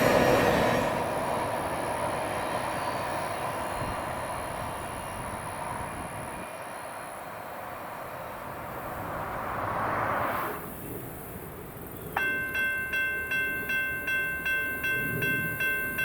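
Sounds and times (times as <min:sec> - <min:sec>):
freight train wheels on rails: 0:00.0 - 0:09.4, 0:10.7 - 0:16.0.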